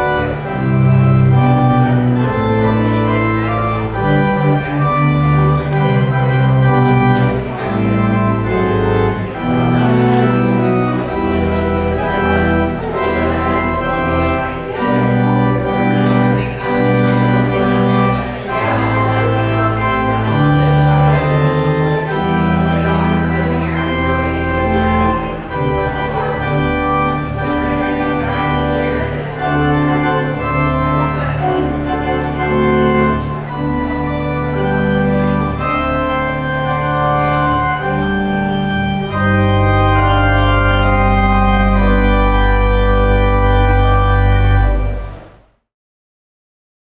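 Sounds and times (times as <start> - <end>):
organ playing chords: 0.0 - 45.6.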